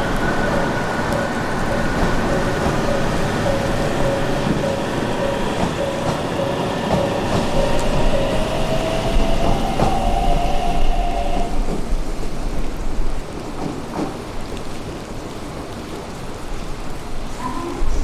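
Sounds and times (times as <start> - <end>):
train whining past: 0.0 - 14.5
heavy rain hiss: 0.0 - 18.0.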